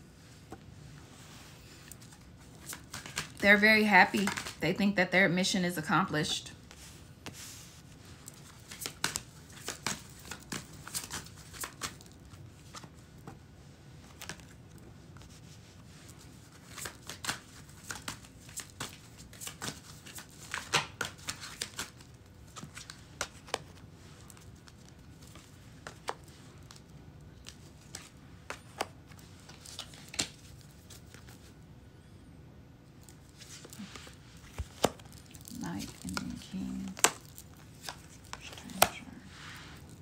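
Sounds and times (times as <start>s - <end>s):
cards being shuffled: 1.6s - 4.6s, 6.6s - 13.4s, 14.0s - 31.5s, 33.0s - 40.0s.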